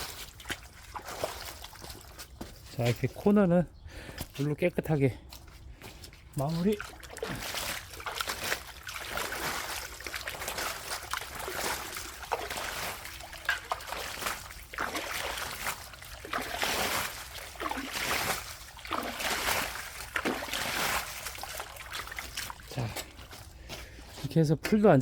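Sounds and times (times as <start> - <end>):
water splashing onto wet soil: 0.0 - 2.9, 6.1 - 23.6.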